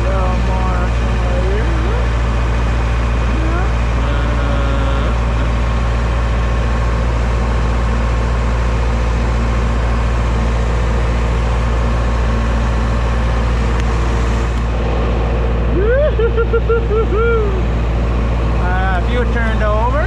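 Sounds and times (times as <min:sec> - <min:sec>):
truck engine drone: 0:00.0 - 0:20.0.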